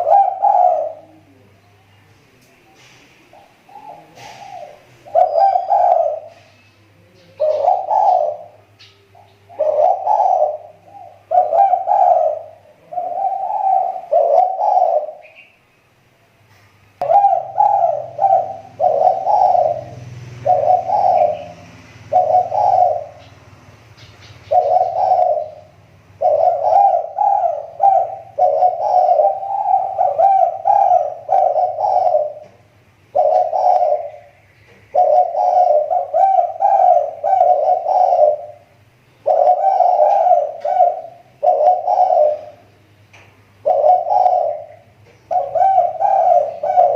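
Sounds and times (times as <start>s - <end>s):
dove cooing: 0.0s - 1.9s, 2.6s - 15.6s, 17.0s - 42.8s, 43.6s - 46.9s
small birds chirping: 0.0s - 16.0s, 16.6s - 46.9s.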